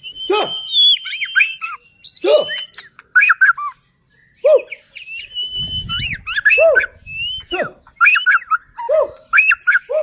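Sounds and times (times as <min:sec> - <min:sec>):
bird singing whistles: 0:00.0 - 0:10.0.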